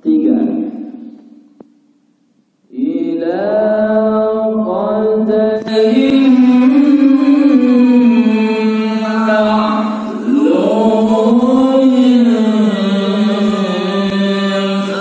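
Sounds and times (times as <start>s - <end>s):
man reciting melodically: 0.0s - 1.4s, 2.7s - 15.0s.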